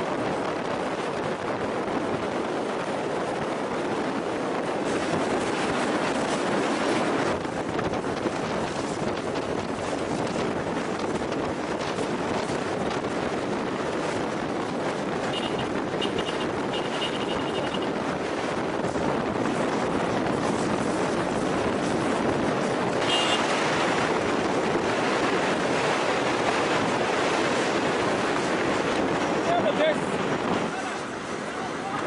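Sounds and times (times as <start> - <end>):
road and engine noise: 0.0 - 32.0
wind rushing on microphone: 0.0 - 32.0.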